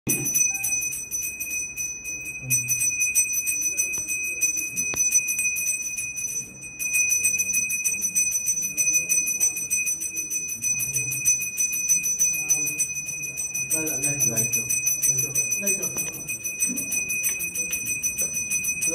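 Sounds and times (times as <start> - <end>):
hand bell ringing rapidly: 0.1 - 18.9.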